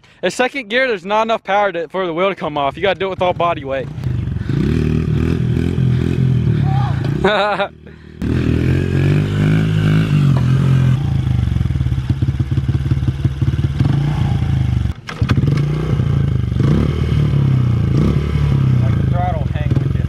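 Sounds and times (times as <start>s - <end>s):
dirt bike engine revving: 2.8s - 20.0s.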